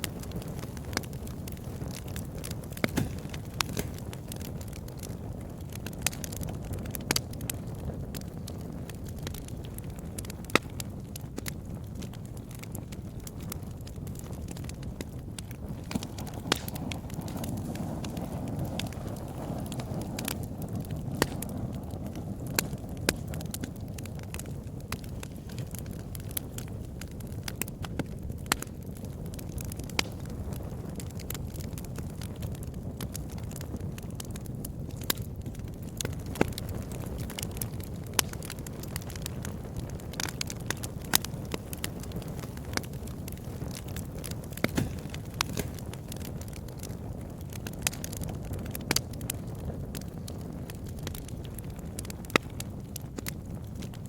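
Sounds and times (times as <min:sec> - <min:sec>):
burning wood popping and crackling: 0:00.0 - 0:54.0
low rush of flames: 0:00.0 - 0:54.0.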